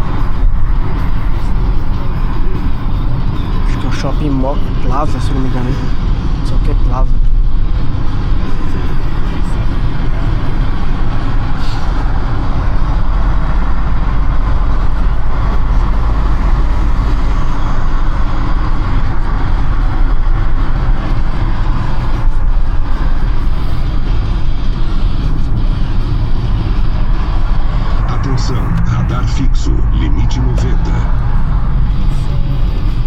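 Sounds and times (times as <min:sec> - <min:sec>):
car driving at speed: 0:00.0 - 0:33.0.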